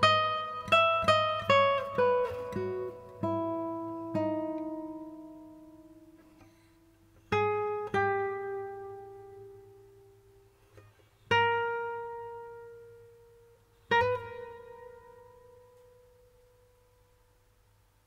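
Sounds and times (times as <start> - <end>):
plucked guitar notes: 0.0 - 10.0, 11.3 - 16.7.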